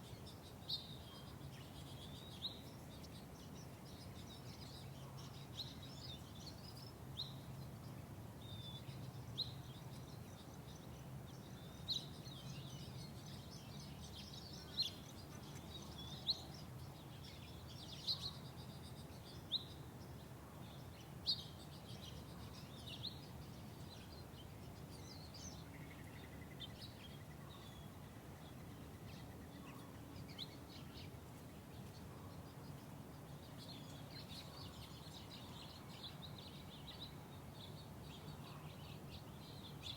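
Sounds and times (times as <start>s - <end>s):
low outdoor background hum: 0.0s - 39.9s
small songbirds chirping: 0.0s - 39.9s.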